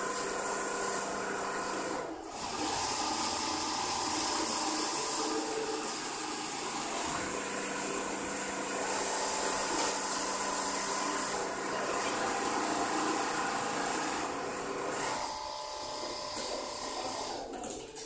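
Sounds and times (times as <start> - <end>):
sewing machines humming: 0.0 - 18.0.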